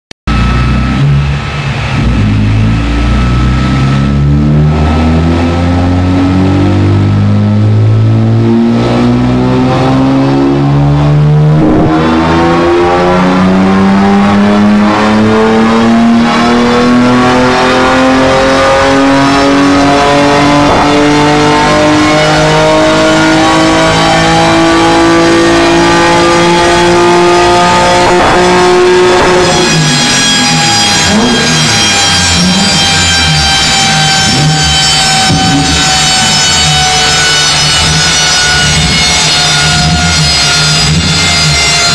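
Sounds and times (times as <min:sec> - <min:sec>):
engine revving on a dyno: 0:00.3 - 0:41.9.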